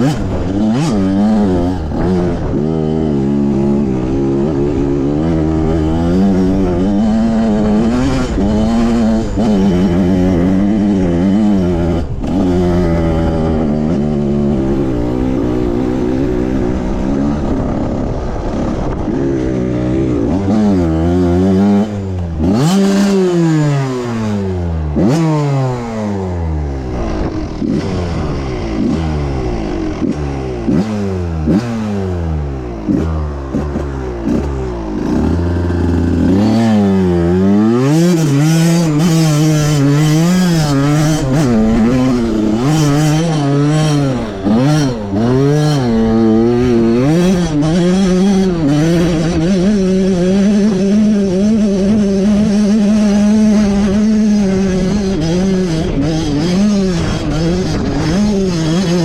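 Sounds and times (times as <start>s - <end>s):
pit bike engine revving: 0.0s - 59.0s.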